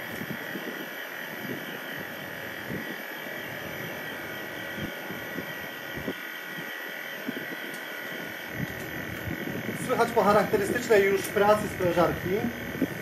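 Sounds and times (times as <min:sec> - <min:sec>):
compressor humming: 0:00.0 - 0:13.0.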